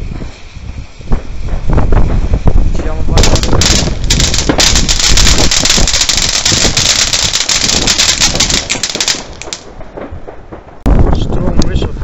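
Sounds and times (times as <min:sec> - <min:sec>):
firework fountain crackling: 0:00.0 - 0:12.0.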